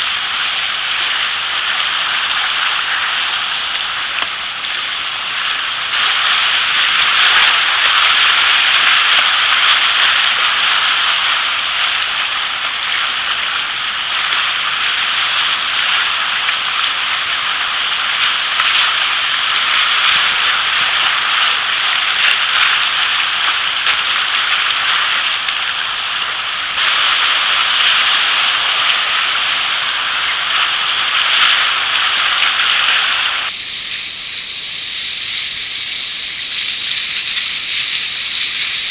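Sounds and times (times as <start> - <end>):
river rapids rushing: 0.0 - 33.6.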